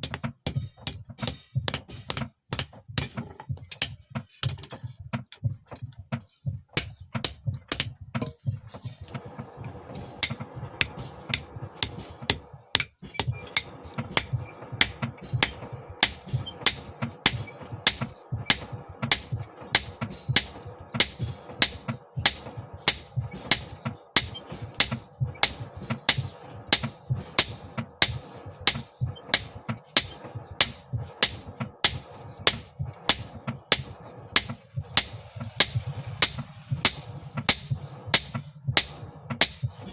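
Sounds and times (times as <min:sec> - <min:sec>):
hammer striking steel on anvil: 0:00.0 - 0:04.6, 0:06.8 - 0:08.4, 0:09.7 - 0:39.9
steady hum: 0:07.2 - 0:39.9.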